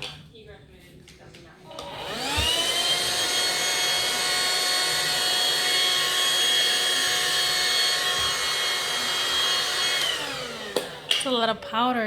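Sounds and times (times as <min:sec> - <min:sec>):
vacuum cleaner whining: 0:01.7 - 0:11.7.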